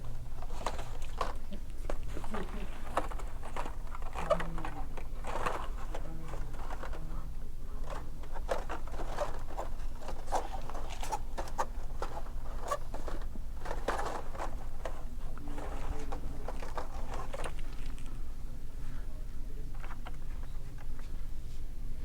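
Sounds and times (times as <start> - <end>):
things being handled: 0.0 - 18.8, 19.6 - 21.3
steady low hum: 0.0 - 22.0.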